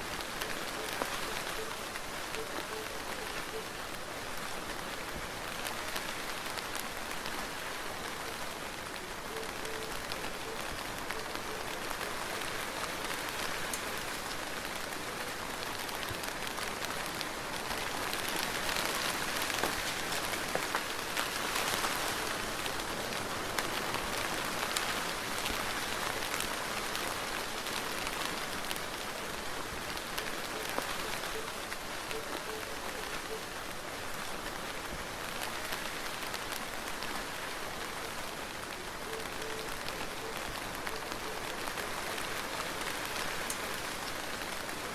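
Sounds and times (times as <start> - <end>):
soft steady rain: 0.0 - 44.9.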